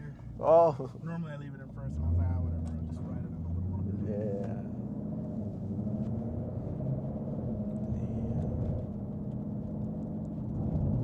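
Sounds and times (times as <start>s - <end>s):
car engine idling low drone: 0.0s - 11.0s.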